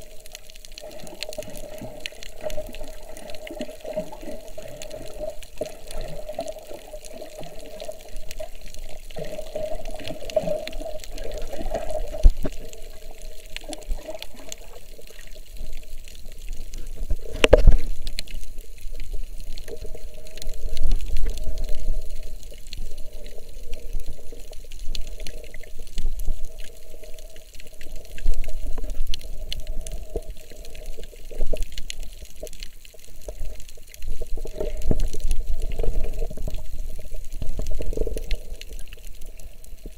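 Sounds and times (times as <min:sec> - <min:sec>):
underwater sloshing and bubbling: 0:00.0 - 0:39.9.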